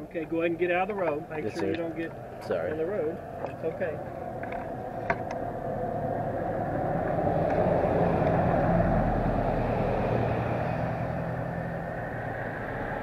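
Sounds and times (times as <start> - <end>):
vehicle engine hum: 0.0 - 13.0
rushing tyre noise: 2.1 - 13.0.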